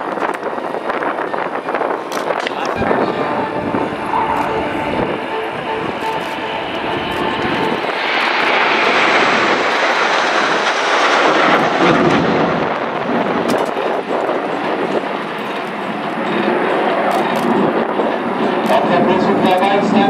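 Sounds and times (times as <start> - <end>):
aircraft flying past: 2.3 - 20.0.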